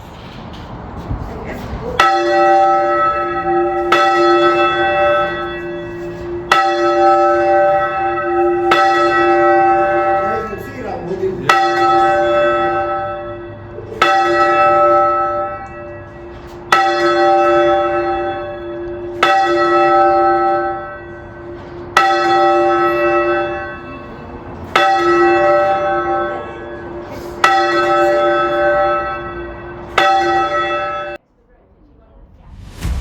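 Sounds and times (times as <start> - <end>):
church bell ringing: 1.9 - 31.2.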